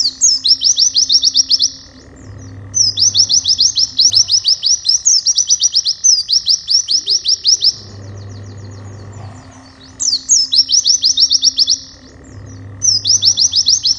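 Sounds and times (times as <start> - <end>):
bird singing fast high notes: 0.0 - 13.9.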